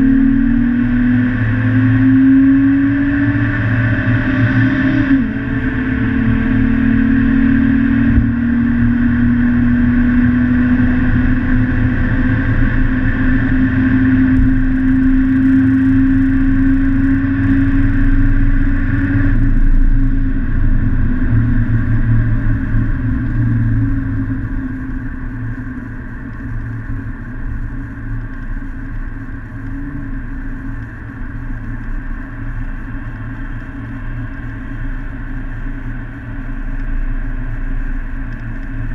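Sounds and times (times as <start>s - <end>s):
car engine droning: 0.0s - 38.9s
road noise inside car: 0.0s - 38.9s.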